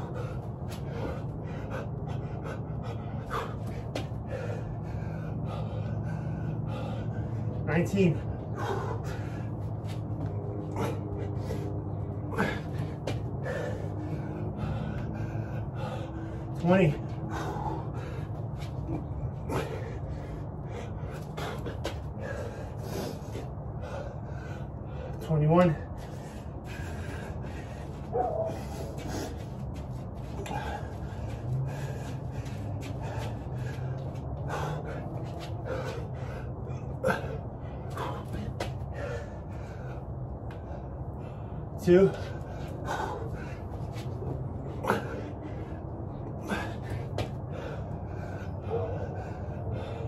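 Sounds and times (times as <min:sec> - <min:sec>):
man breathing hard: 0:00.0 - 0:50.0
man panting heavily: 0:00.0 - 0:50.0
steady low hum: 0:00.0 - 0:50.0.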